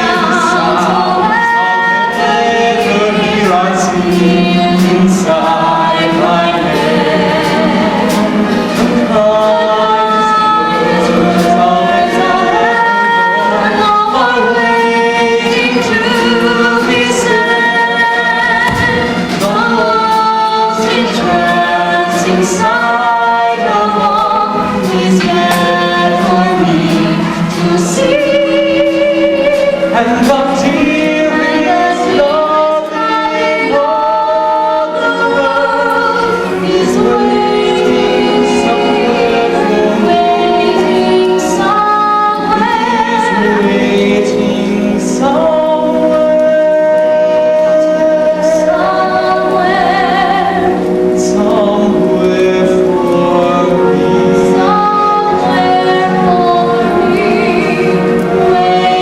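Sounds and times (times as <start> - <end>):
duet singing with vibrato: 0.0 - 59.0
musical accompaniment: 0.0 - 59.0.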